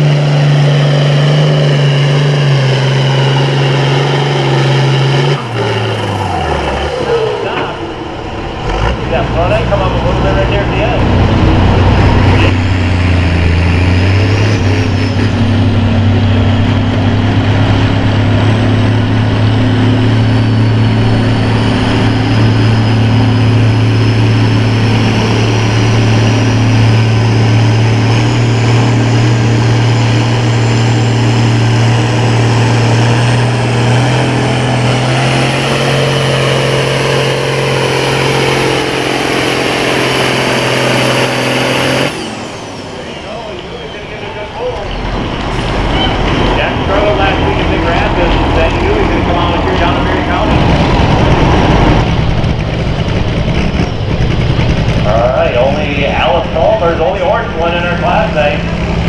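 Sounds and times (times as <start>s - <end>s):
tractor engine under full load: 0.0s - 59.0s.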